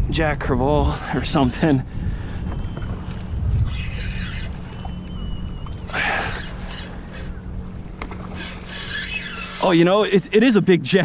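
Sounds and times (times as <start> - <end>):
wind on microphone: 0.0 - 9.6
water rushing along hull: 0.0 - 11.0.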